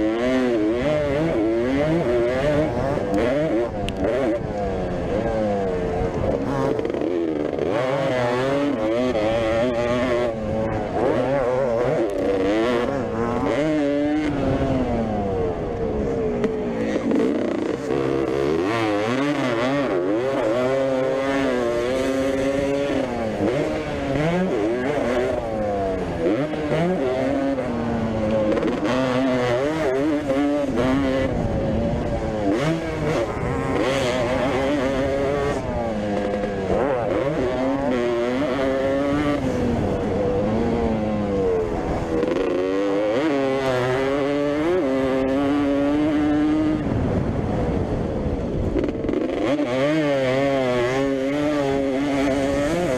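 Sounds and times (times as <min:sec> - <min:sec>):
motocross bike engines revving: 0:00.0 - 0:52.9.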